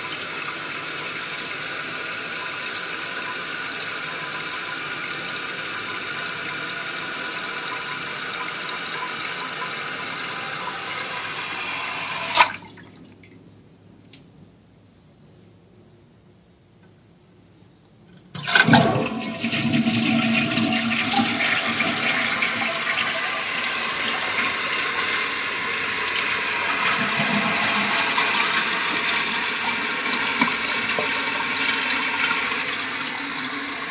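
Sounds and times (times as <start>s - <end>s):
toilet flushing: 0.0s - 13.2s, 18.4s - 33.9s
toilet refilling: 0.0s - 13.2s, 18.4s - 33.9s.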